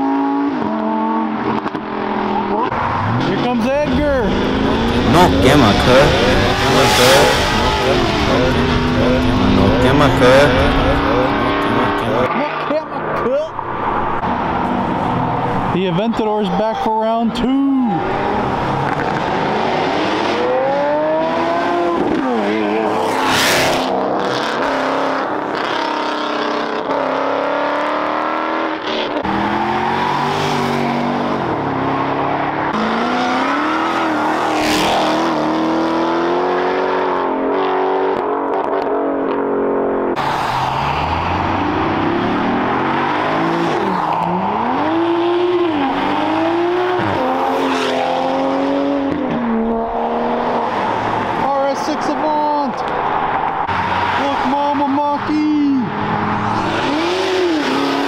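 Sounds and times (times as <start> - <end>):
cars accelerating hard: 0.0 - 58.0.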